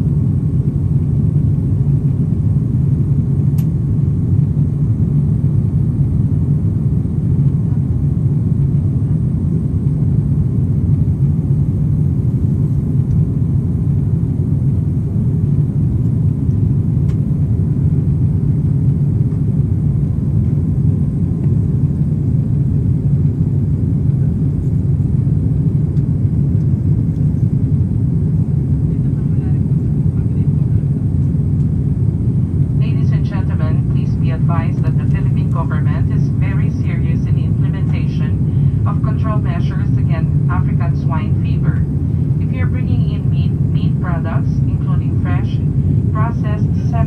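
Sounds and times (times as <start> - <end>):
airliner cabin rumble: 0.0 - 47.0.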